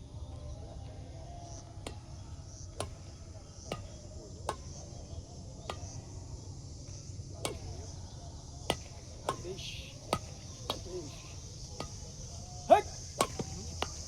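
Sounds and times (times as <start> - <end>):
insects chirping: 0.0 - 14.0
shuttlecock hit by rackets: 1.7 - 14.0.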